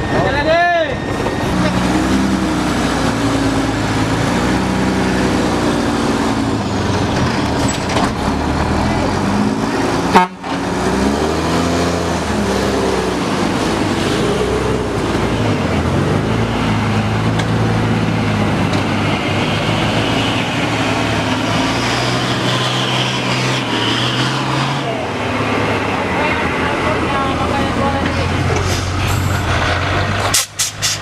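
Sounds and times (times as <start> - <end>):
truck engine under load: 0.0 - 31.0.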